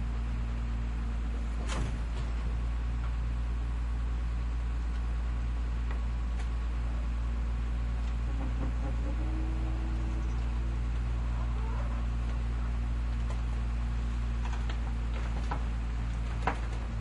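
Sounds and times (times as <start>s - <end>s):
garbage truck engine idling: 0.0s - 17.0s.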